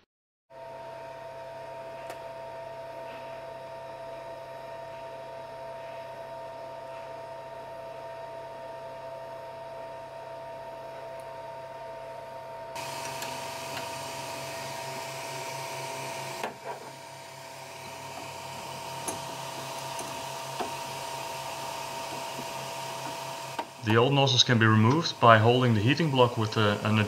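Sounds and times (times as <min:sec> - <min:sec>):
printer fan whirring: 0:01.2 - 0:27.0.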